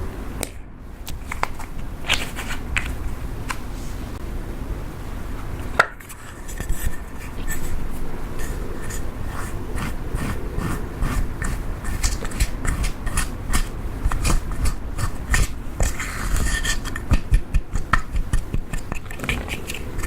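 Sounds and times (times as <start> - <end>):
slime scraping: 1.2 - 4.1, 6.0 - 20.0.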